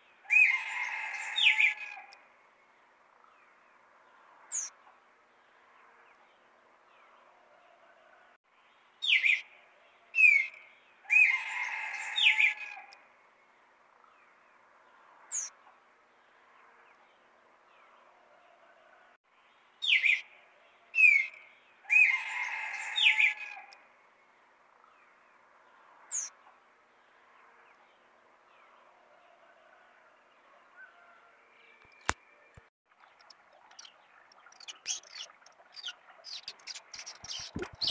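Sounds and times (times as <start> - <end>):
songbird singing: 0.0 - 7.4, 8.0 - 29.0, 29.7 - 37.9.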